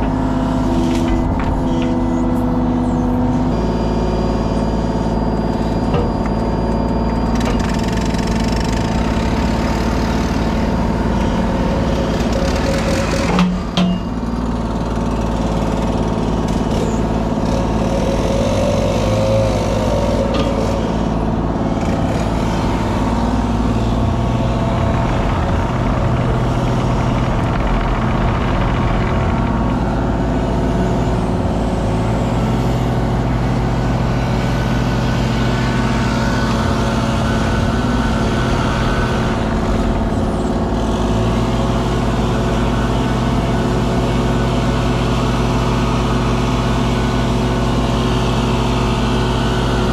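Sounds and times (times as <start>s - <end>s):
diesel excavator engine running: 0.0s - 49.9s.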